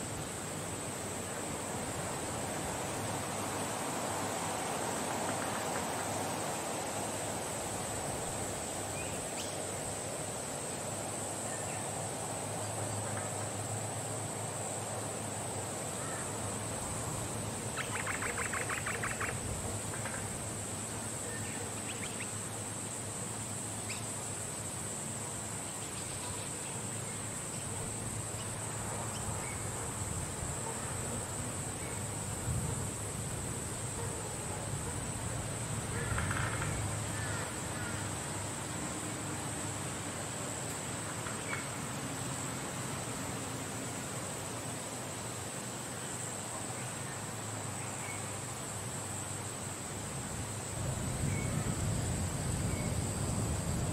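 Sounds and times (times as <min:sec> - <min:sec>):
even hiss: 0:00.0 - 0:53.9
high insect drone: 0:00.0 - 0:53.9.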